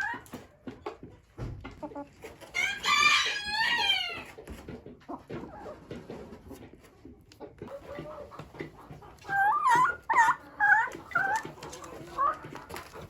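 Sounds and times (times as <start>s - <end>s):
chicken flock sounds: 0.0s - 13.0s.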